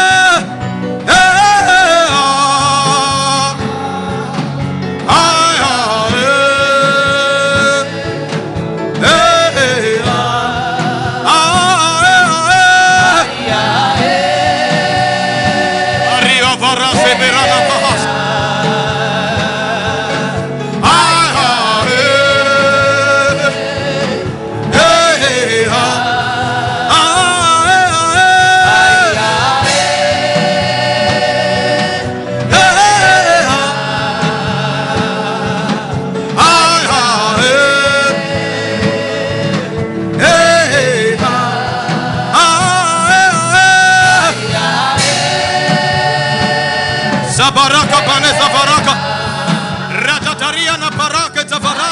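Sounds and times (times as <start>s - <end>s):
backing music: 0.0s - 51.9s
gospel worship singing: 0.0s - 51.9s.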